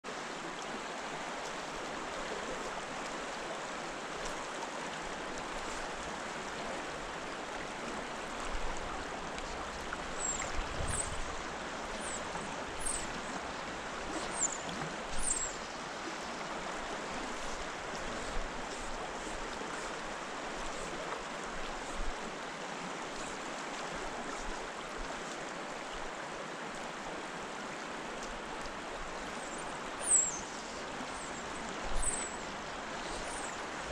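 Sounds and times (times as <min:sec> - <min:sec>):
stream flowing over riffles: 0:00.0 - 0:33.9.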